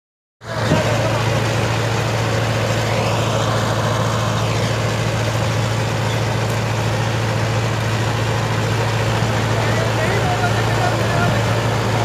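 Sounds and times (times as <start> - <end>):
tractor engine idling: 0.4 - 12.0.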